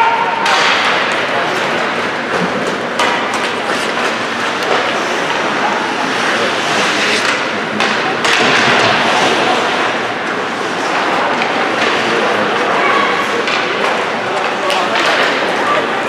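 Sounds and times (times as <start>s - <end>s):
indistinct voices: 0.0s - 16.0s.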